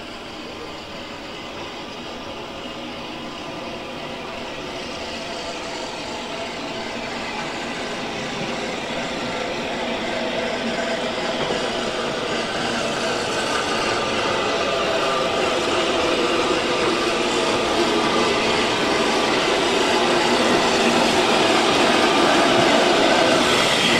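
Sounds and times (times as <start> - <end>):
steam train rolling: 0.0 - 23.9.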